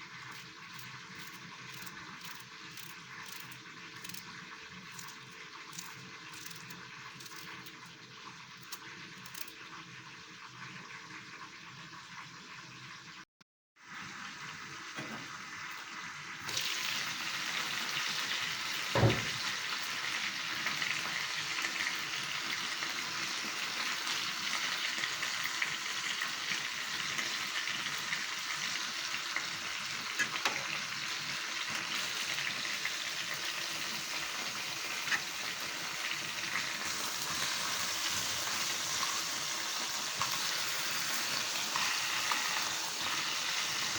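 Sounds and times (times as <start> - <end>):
food sizzling in oil: 0.0 - 13.2, 13.8 - 43.9.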